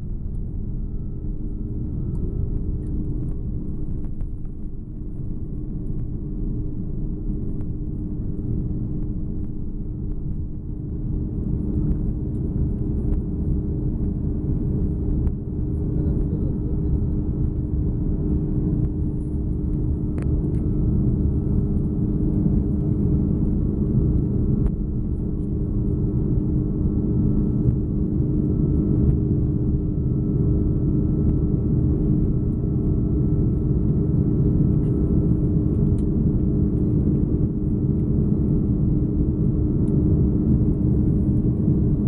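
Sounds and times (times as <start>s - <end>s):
jet engines rumbling: 0.0s - 42.0s.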